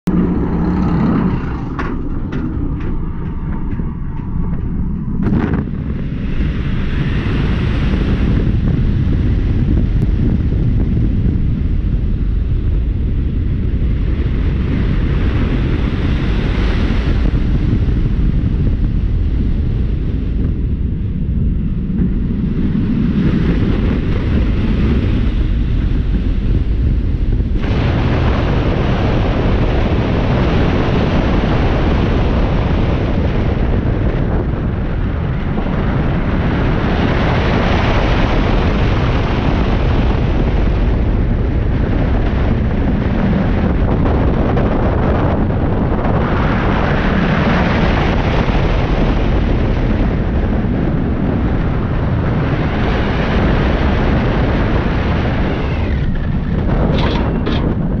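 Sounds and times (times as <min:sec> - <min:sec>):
loud rushing wind: 0:00.0 - 0:58.0
roller coaster train rumbling on track: 0:00.0 - 0:58.0.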